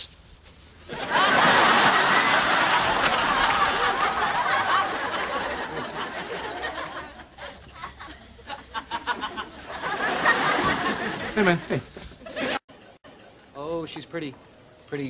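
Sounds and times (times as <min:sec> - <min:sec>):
studio audience laughing: 0:00.9 - 0:13.3.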